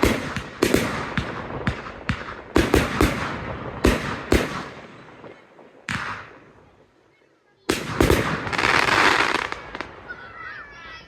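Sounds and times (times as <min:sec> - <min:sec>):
fireworks bangs with echo: 0:00.0 - 0:06.8, 0:07.6 - 0:10.7.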